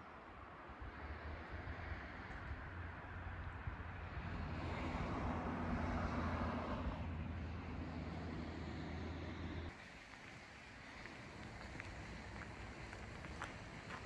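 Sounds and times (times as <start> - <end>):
car passing by: 0.6 - 14.0.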